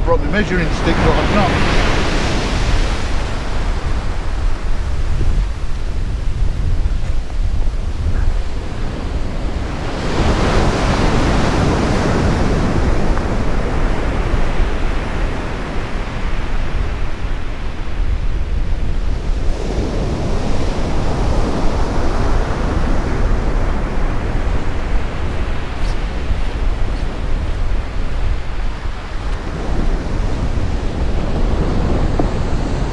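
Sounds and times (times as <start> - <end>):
waves breaking on beach: 0.0 - 32.9
wind rumbling on microphone: 0.0 - 32.9.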